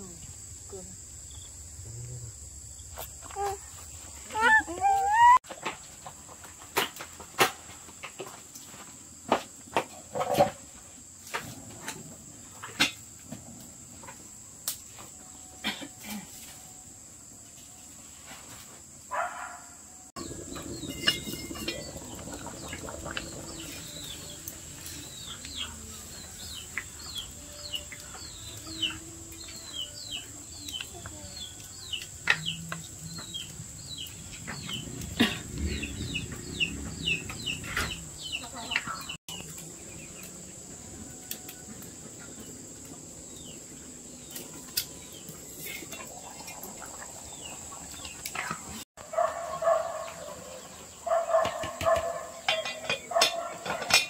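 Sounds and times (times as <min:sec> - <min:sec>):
high insect drone: 0:00.0 - 0:05.4, 0:07.6 - 0:48.8.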